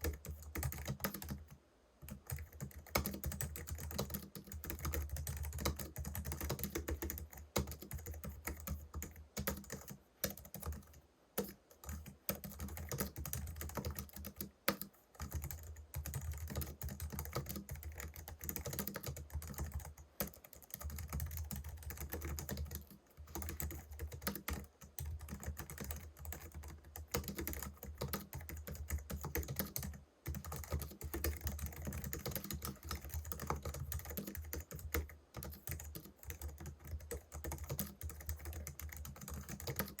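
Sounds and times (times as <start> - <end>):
typing on keyboard: 0.0 - 40.0.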